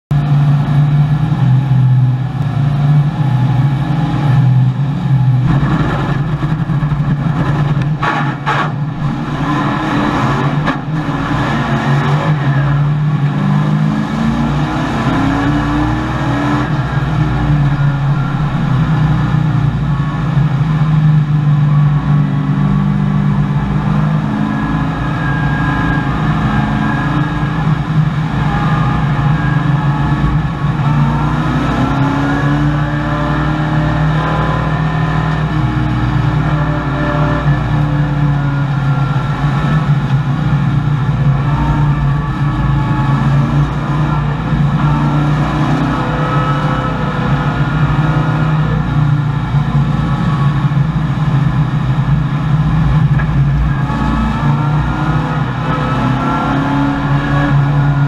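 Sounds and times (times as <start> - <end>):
race car engine accelerating: 0.1 - 58.0.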